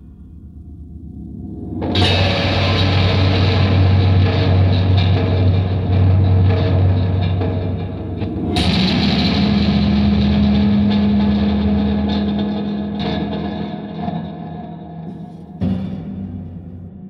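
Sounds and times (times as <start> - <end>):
low drone: 0.0 - 17.0.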